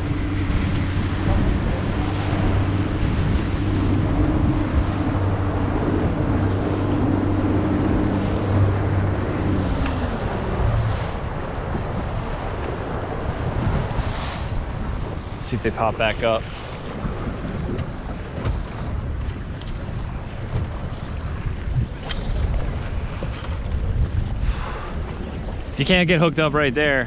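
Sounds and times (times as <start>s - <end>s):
boat engine running: 0.0s - 27.0s
water rushing: 0.0s - 27.0s
wind buffeting microphone: 0.0s - 27.0s.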